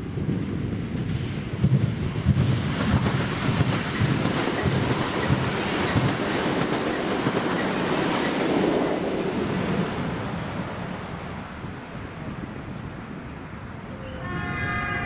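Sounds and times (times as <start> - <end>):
freight train wagons rumbling: 0.0 - 15.0.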